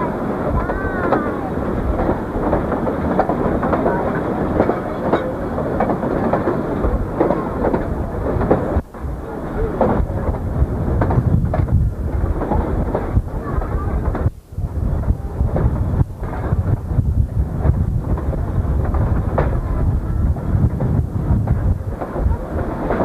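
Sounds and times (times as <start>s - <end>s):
train rumbling and rattling: 0.0s - 23.0s
wheels clattering over rails: 0.0s - 23.0s.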